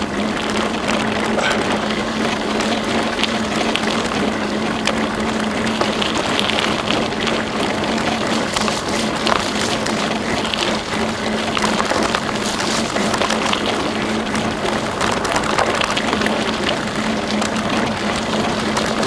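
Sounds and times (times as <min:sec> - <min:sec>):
bicycle tyre rushing on trail: 0:00.0 - 0:19.0
low hum: 0:00.0 - 0:19.0.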